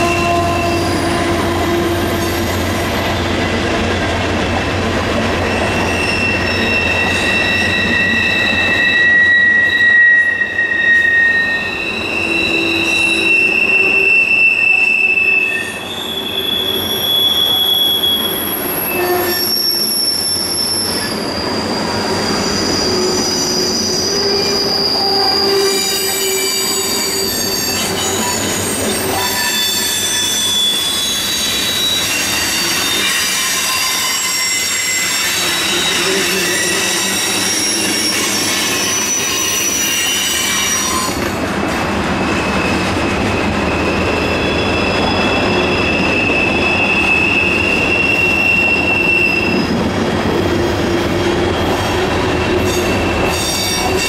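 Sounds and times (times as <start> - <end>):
train wheels squealing: 0.0 - 4.2, 5.2 - 41.5, 42.2 - 54.0
train wheels rumbling: 0.0 - 54.0.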